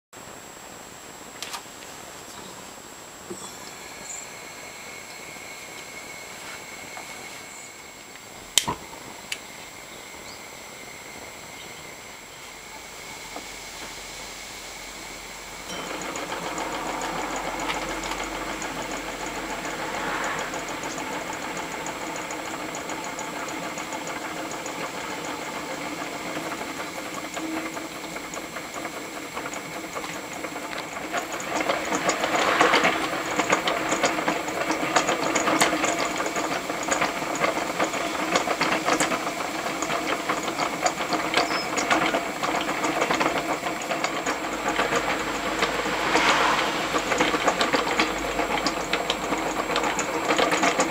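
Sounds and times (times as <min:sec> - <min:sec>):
fan motor mechanical clatter: 0:00.9 - 0:50.9.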